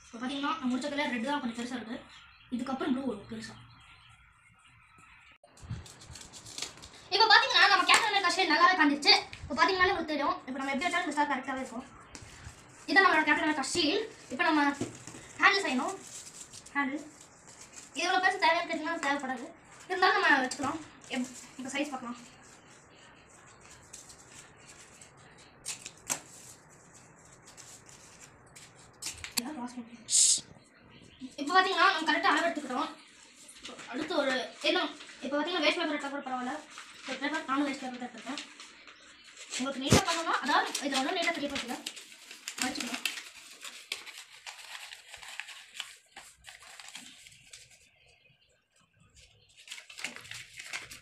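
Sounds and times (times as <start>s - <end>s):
paper rustling and crinkling: 5.5s - 9.6s, 10.5s - 29.4s, 31.3s - 47.9s, 49.2s - 51.0s.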